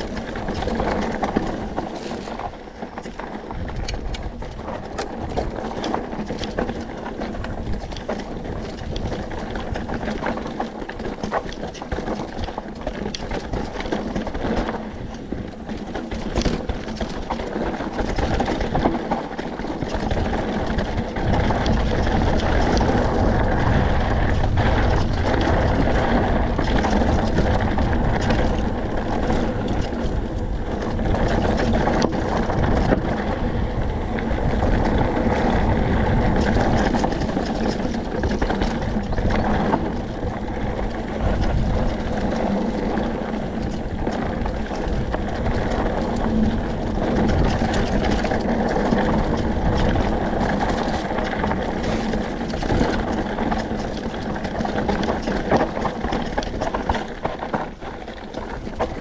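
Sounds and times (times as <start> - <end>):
bike rattling over bumps: 0.0 - 59.0
tyres crunching over dirt and stones: 0.0 - 59.0
wind rumble on microphone: 0.0 - 59.0.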